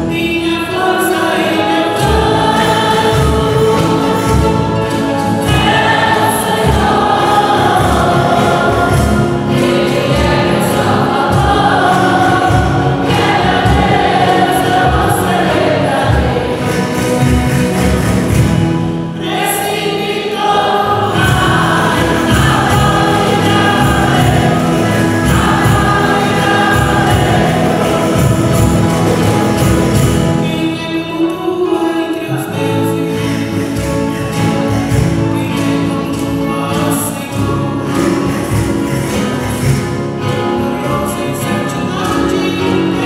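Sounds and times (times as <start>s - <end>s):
classical guitar: 0.0s - 43.0s.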